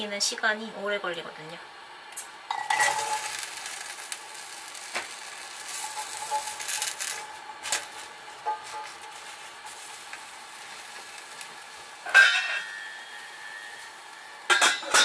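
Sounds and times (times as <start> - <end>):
beans sizzling in a pan: 2.0 - 15.0.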